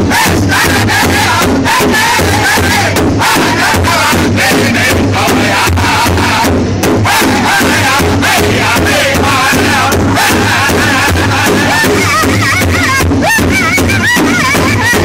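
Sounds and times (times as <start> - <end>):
men singing in unison: 0.0 - 13.1
large bass drum beat: 0.0 - 15.0.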